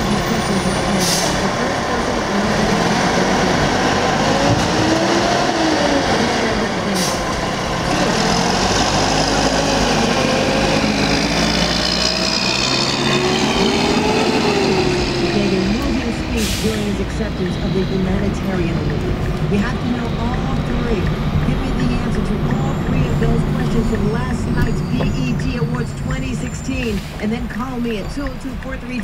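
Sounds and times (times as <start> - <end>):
garbage truck engine revving: 0.0 - 27.4.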